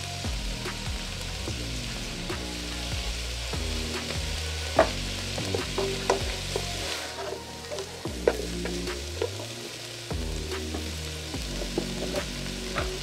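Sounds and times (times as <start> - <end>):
vegetables sizzling in a pot: 0.0 - 13.0.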